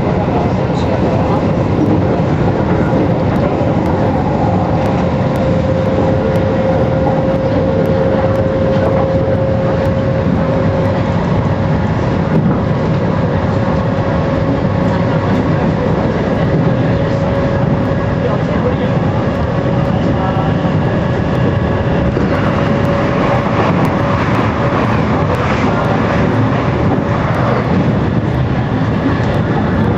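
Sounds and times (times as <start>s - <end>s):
wheels rumbling on rails: 0.0s - 29.9s.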